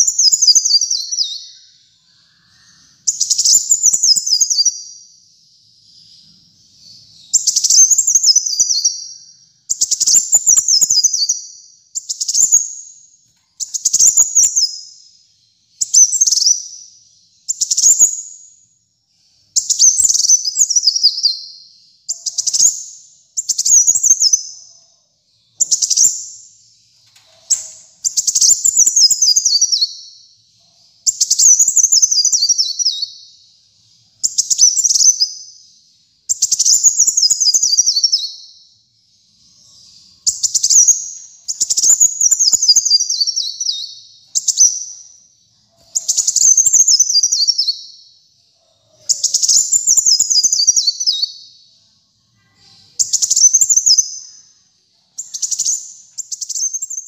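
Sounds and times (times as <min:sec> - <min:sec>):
sunbird singing: 0:00.0 - 0:57.0.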